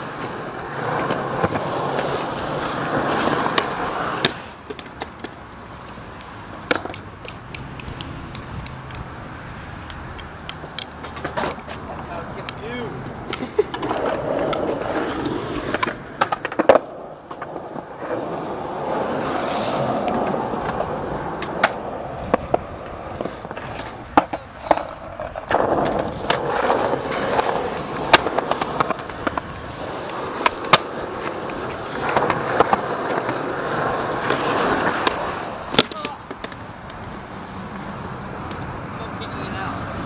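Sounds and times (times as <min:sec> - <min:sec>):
skateboard clacks on cracks: 0:00.0 - 0:09.1, 0:09.8 - 0:38.8
skateboard wheels rolling on concrete: 0:00.0 - 0:40.0.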